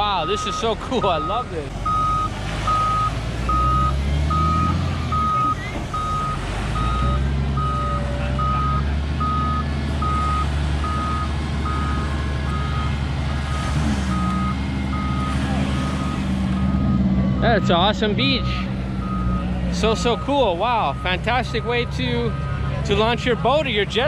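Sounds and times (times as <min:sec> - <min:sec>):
reversing alarm beeping: 0:00.0 - 0:23.6
diesel engine under load: 0:00.0 - 0:24.0.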